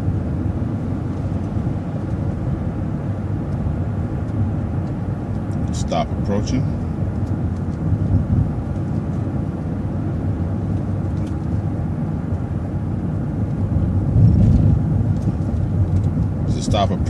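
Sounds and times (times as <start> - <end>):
bus engine and tyre rumble: 0.0 - 17.0.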